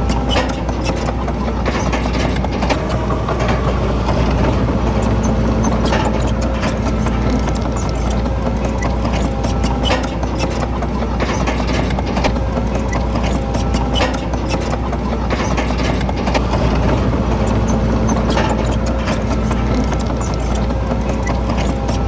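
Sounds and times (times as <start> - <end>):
clanks and knocks: 0.0 - 22.0
heavy diesel engine running: 0.0 - 22.0.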